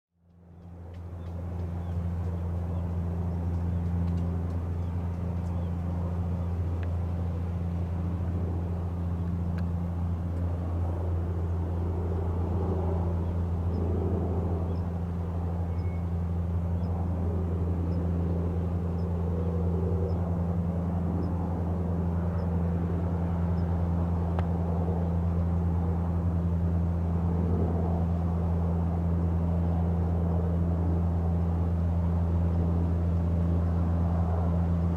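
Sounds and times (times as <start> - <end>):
helicopter turbines and rotor: 0.3 - 34.9.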